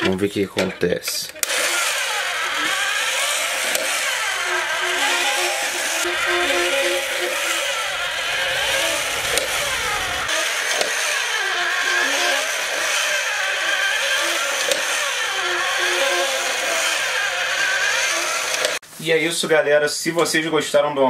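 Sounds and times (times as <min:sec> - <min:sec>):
toy motor and gears whirring: 0:01.1 - 0:18.8.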